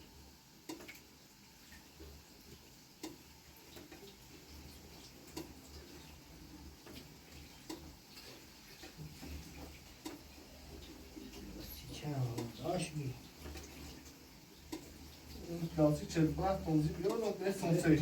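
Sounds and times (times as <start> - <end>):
water dripping: 0.0 - 18.0.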